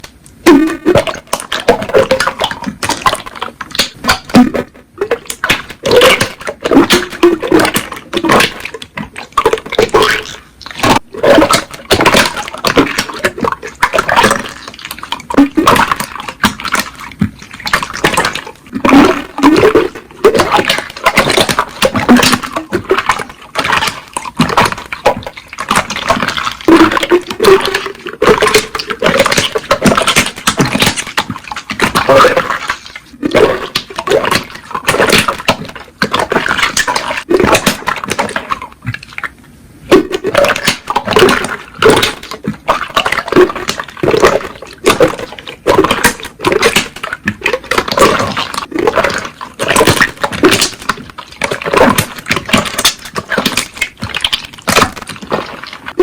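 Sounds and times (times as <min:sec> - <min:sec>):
slime squelching and clicking: 0:00.0 - 0:56.0.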